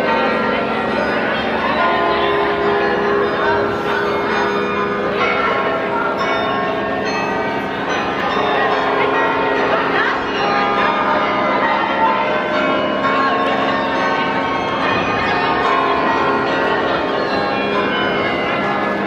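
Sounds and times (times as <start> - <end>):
church bells ringing a peal: 0.0 - 19.0.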